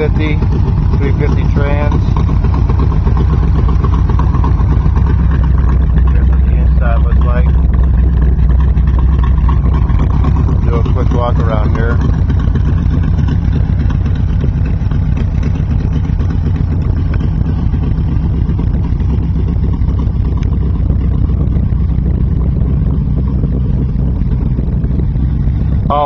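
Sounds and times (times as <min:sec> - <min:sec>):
engine idling deep rumble: 0:00.0 - 0:26.0.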